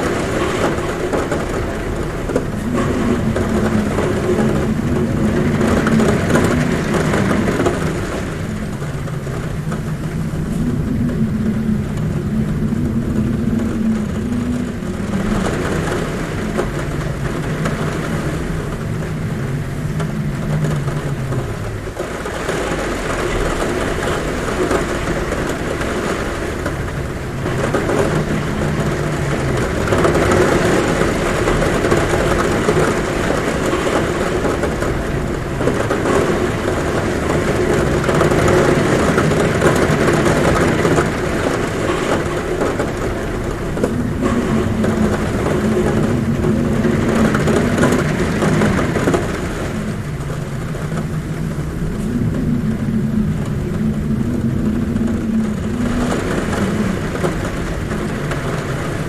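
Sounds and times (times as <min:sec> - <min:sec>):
heavy rain on a roof: 0:00.0 - 0:59.0
wind howling at a window: 0:00.0 - 0:59.0.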